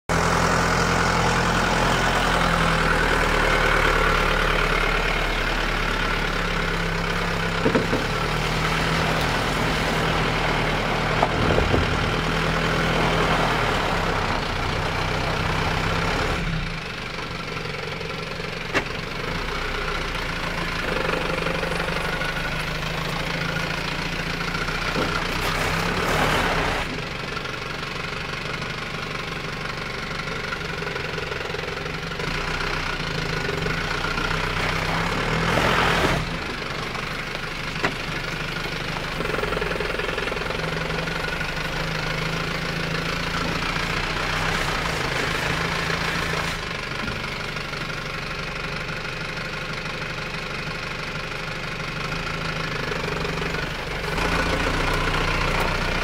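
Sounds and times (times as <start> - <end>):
vehicle engine at low revs: 0.0 - 56.0.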